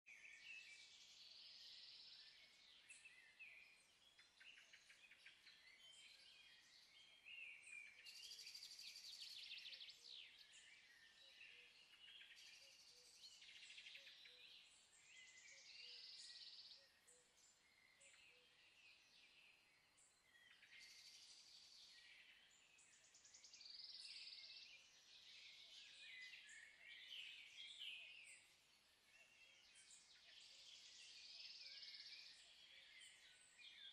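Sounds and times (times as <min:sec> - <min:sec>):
faint birdsong chirps and trills: 0:00.0 - 0:33.9.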